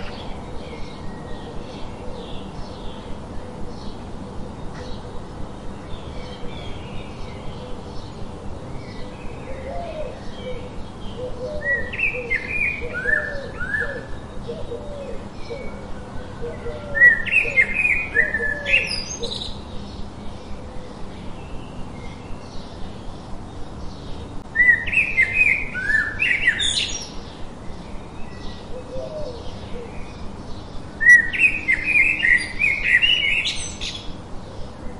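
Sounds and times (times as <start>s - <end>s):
softer background chirping: 0.0s - 34.9s
songbird singing: 0.0s - 34.9s.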